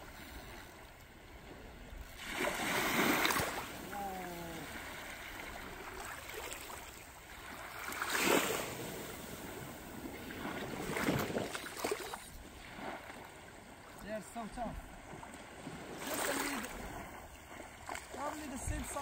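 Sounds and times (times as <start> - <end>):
small waves washing on beach: 0.0 - 19.0.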